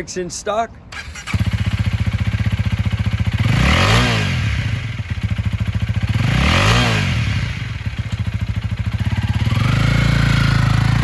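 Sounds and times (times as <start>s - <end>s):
motorcycle engine idling and revving: 0.9s - 11.0s.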